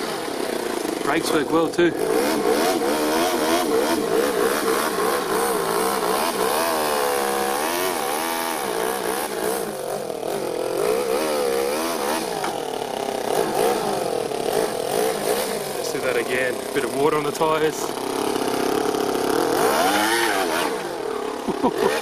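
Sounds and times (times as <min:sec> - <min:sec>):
nitro engine revving: 0:00.0 - 0:22.0.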